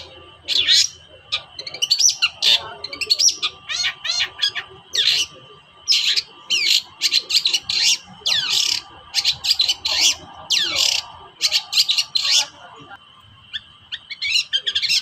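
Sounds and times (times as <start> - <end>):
shrike harsh calls: 0.0 - 15.0.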